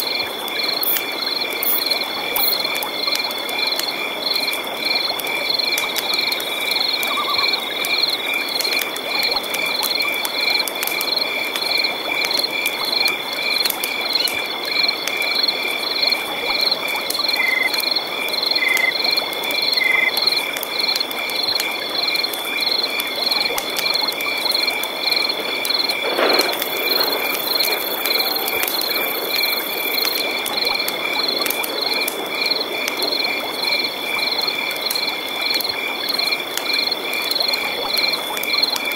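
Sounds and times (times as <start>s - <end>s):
frogs pulsing call: 0.0s - 38.9s
insects trilling: 0.0s - 38.9s.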